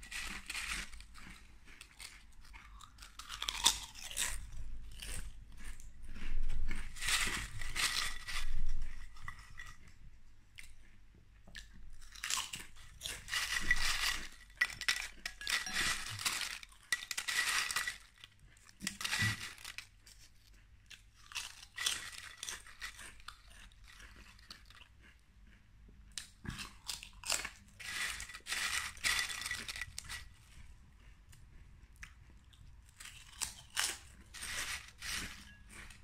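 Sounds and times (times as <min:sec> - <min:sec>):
potato chips crunching: 0:00.0 - 0:09.9, 0:11.5 - 0:20.3, 0:20.9 - 0:25.2, 0:26.1 - 0:31.1, 0:32.0 - 0:36.0.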